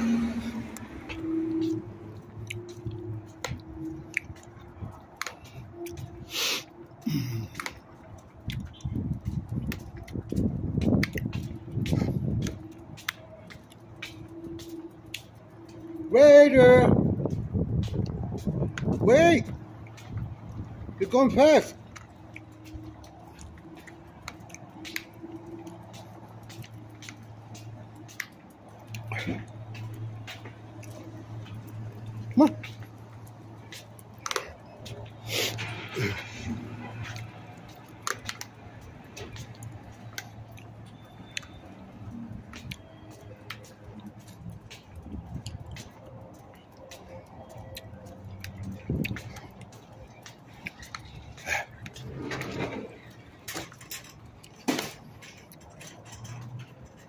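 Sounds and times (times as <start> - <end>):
footsteps on concrete: 0.0 - 57.0.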